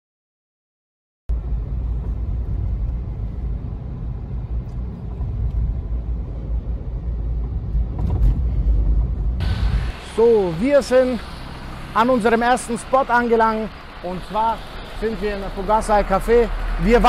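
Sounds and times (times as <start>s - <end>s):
car road and engine rumble: 1.3s - 17.0s.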